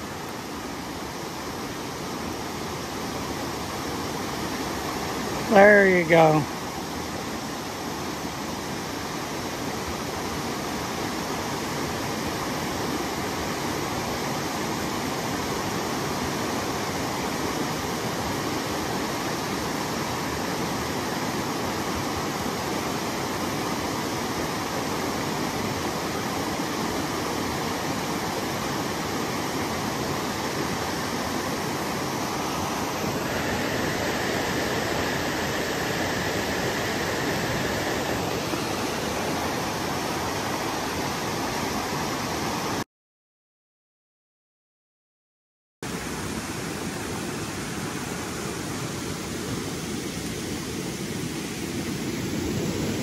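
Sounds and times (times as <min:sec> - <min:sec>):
stream rushing over rocks: 0:00.0 - 0:42.8, 0:45.8 - 0:53.0.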